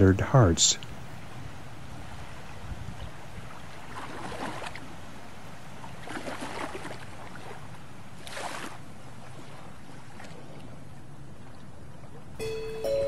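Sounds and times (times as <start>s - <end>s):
small waves washing onto shore: 0.7s - 12.4s
low wind rumble on microphone: 0.9s - 12.4s.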